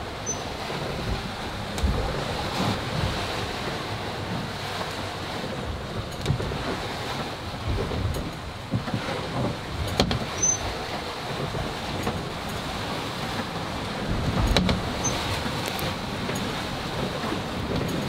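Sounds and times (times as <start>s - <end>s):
rush of wind and sea: 0.0s - 18.0s
wind buffeting microphone: 0.0s - 18.0s.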